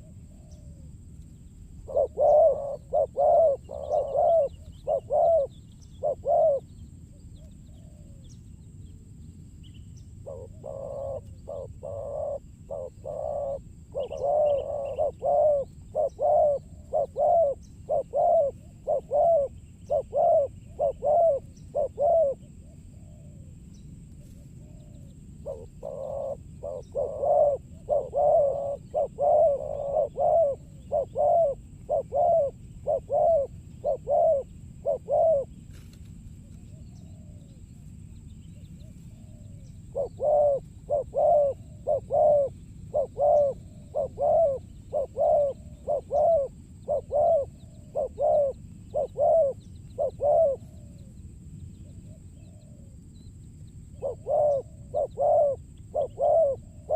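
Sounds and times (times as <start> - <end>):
doves cooing: 0.0 - 1.0, 1.8 - 8.4, 10.2 - 37.6, 38.8 - 51.2, 51.8 - 53.1, 53.9 - 56.9
low background hum: 0.0 - 56.9.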